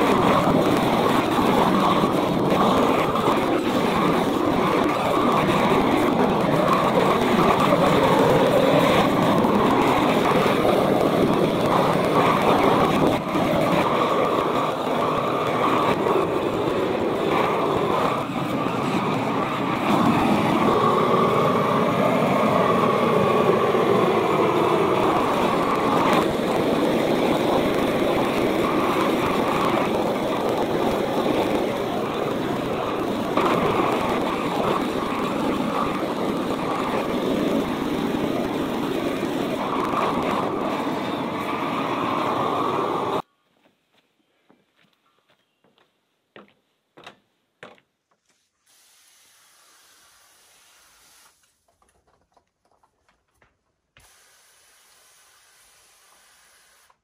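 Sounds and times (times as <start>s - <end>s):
propane torch burning: 0.0s - 43.3s, 48.6s - 51.6s, 54.0s - 57.0s.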